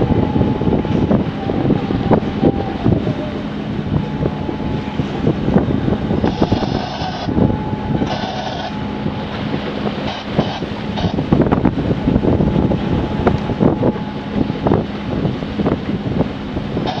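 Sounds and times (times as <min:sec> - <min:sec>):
boat engine drone: 0:00.0 - 0:17.0
choppy water splashing: 0:00.0 - 0:17.0
wind gusting on microphone: 0:00.0 - 0:17.0.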